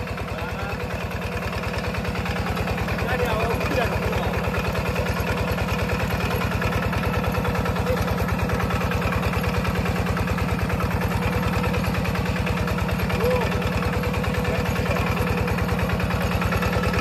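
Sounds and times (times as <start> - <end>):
engine chugging steadily: 0.0 - 17.0.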